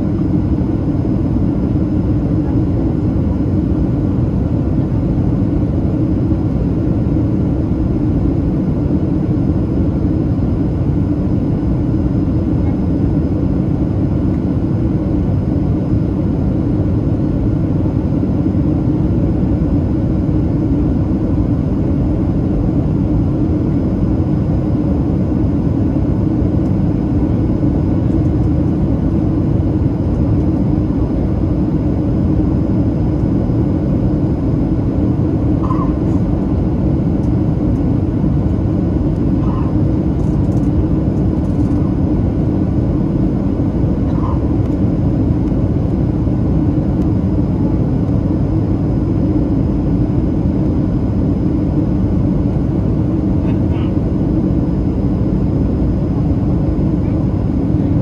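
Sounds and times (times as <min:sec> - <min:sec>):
airliner engines rumbling: 0:00.0 - 0:58.0.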